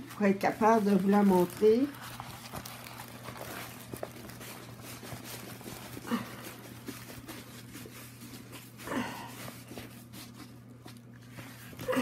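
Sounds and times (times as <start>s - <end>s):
plastic-covered canvas crinkling: 0.0s - 12.0s.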